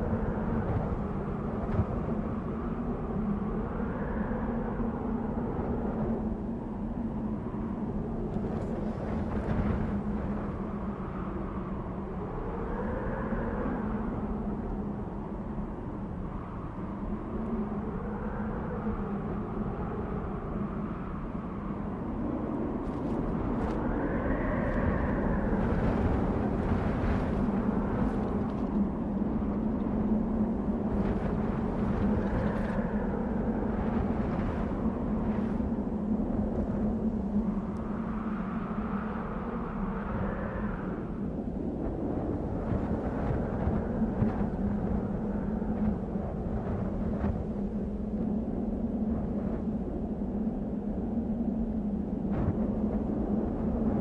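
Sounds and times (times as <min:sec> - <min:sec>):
howling wind: 0:00.0 - 0:54.0.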